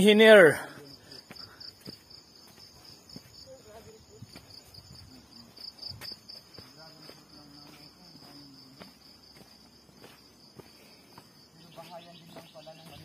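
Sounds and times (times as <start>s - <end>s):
footsteps on dirt path: 0.0s - 13.0s
insects trilling: 0.0s - 13.0s.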